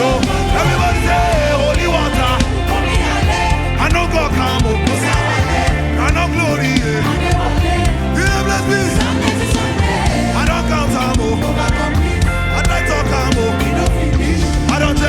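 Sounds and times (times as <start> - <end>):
gospel band music: 0.0 - 15.0
heavy bass line: 0.0 - 15.0
person singing: 0.0 - 15.0.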